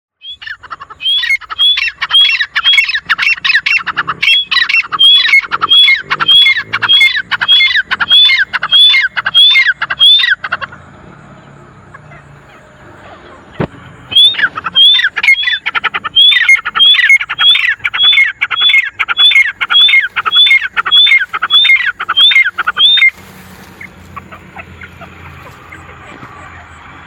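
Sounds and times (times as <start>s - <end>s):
francolins calling: 0.2s - 27.0s.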